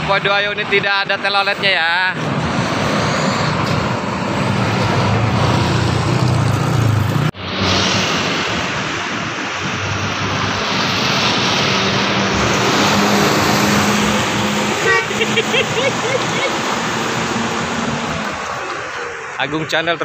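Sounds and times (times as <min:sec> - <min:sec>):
heavy vehicle engine drone: 0:00.0 - 0:20.0
traffic road rush: 0:00.0 - 0:20.0.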